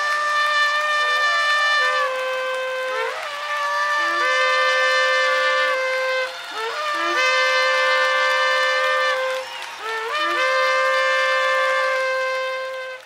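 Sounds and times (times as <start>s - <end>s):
shofar blasts: 0.0s - 13.0s.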